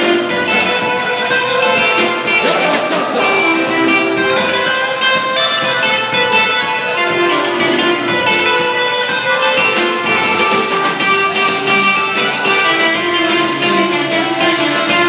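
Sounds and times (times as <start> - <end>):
music with steady beat: 0.0 - 15.0.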